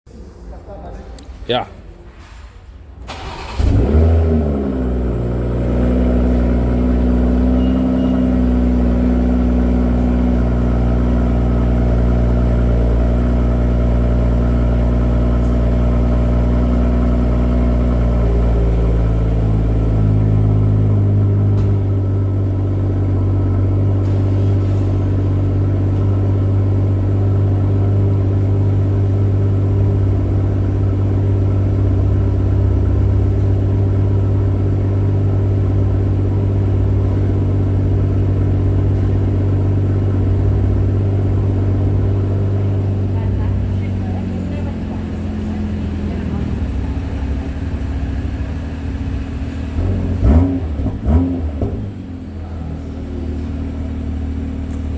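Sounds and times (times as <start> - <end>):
car engine idling: 3.0 - 54.9.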